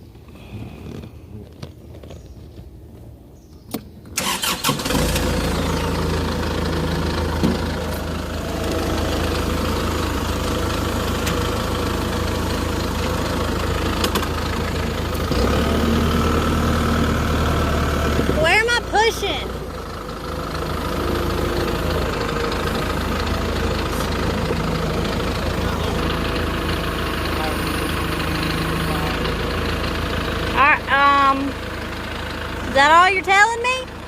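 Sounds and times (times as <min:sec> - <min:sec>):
tractor engine starting and idling: 0:03.5 - 0:34.0.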